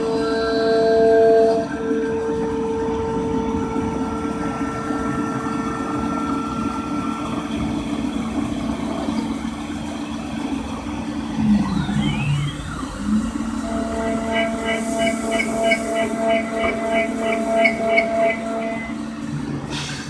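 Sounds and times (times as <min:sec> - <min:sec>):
machine hum with whine: 0:00.0 - 0:19.9.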